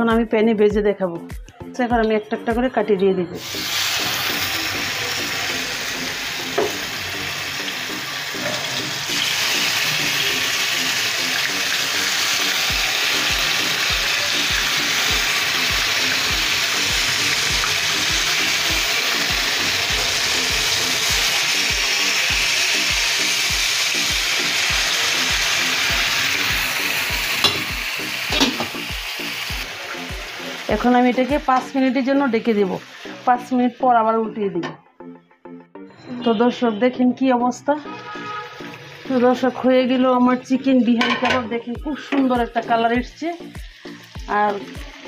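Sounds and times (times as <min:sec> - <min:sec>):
background music with steady beat: 0:00.0 - 0:39.4, 0:40.2 - 0:45.0
chicken sizzling in hot oil: 0:03.4 - 0:33.8, 0:37.8 - 0:41.4, 0:42.2 - 0:45.0.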